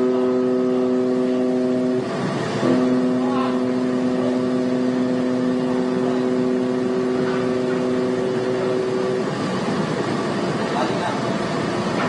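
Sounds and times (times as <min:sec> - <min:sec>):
ship's low drone: 0:00.0 - 0:10.4.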